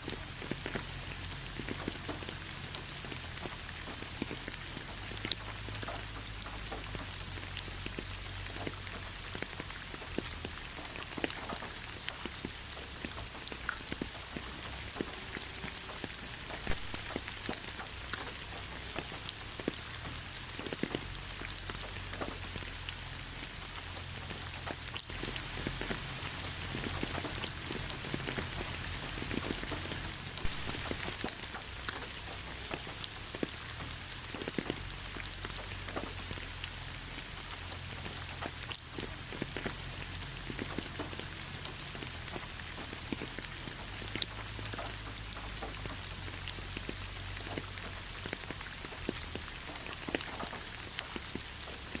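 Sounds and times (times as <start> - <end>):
raindrops ticking and splashing: 0.0 - 52.0
steady rainfall: 0.0 - 52.0.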